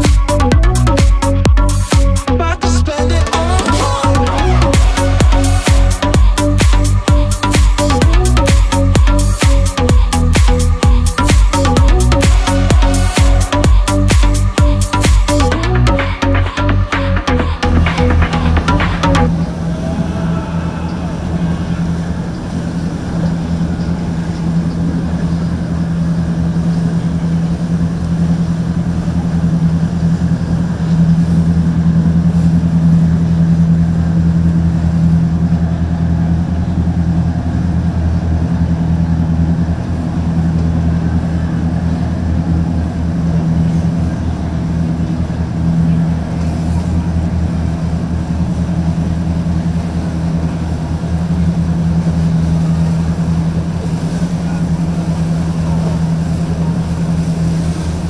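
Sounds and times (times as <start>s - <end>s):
boat engines droning: 0.0s - 58.0s.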